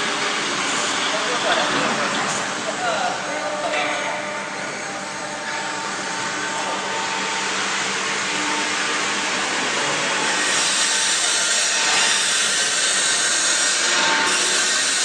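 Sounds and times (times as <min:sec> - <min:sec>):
cnc router rushing hiss: 0:00.0 - 0:15.0.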